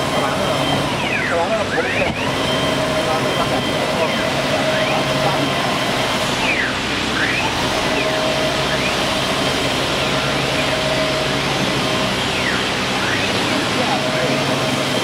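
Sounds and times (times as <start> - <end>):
motor whines sliding in pitch: 0.0 - 15.0
wood router machine noise: 0.0 - 15.0.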